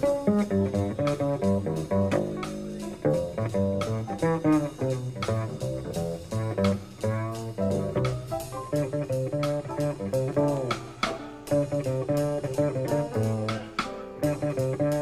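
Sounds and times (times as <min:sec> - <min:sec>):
double bass plucked notes: 0:00.0 - 0:15.0.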